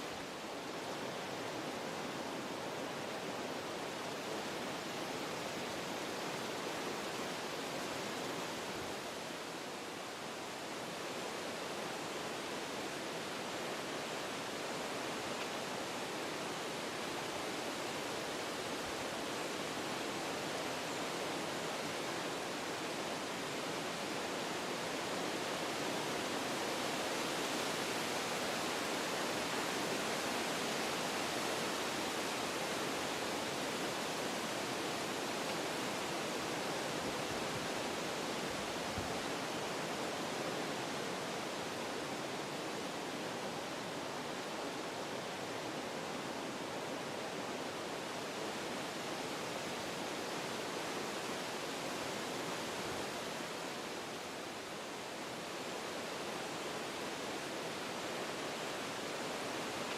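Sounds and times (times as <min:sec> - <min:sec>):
wind through trees: 0:00.0 - 0:59.9.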